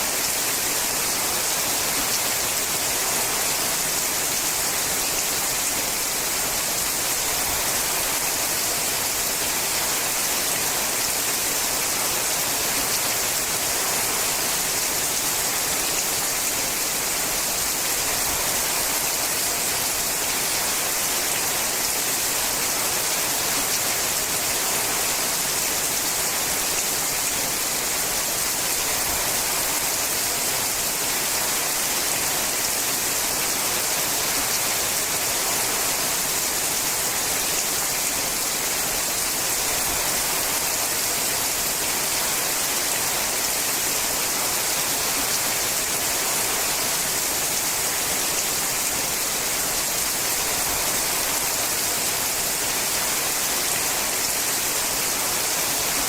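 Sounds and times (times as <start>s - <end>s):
heavy rain on a metal roof: 0.0s - 56.0s.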